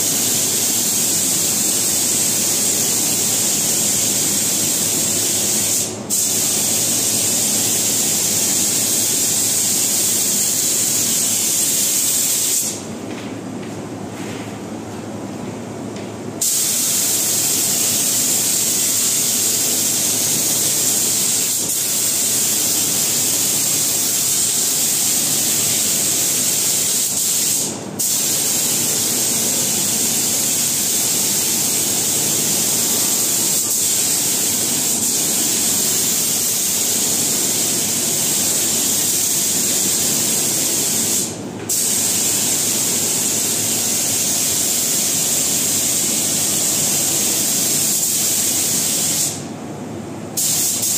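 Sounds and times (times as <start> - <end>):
spray gun hissing: 0.0 - 12.8, 16.4 - 49.4, 50.4 - 50.9.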